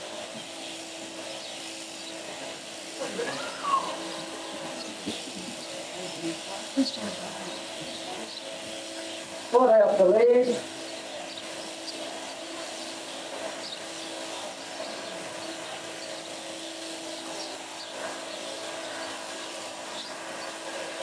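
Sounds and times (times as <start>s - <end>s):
sheep shears humming: 0.0s - 21.0s.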